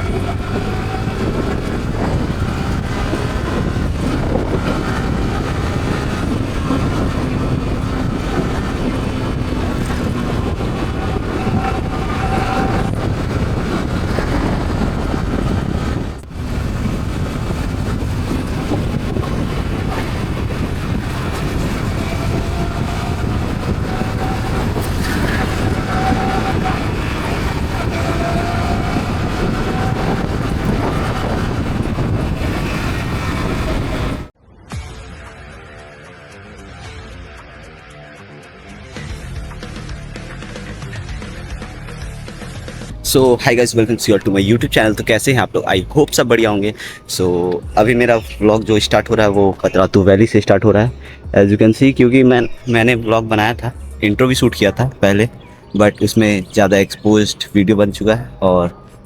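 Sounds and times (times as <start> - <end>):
wind and road rush: 0.0 - 34.4, 38.9 - 59.0
motorcycle engine drone: 0.0 - 49.6, 52.5 - 59.0.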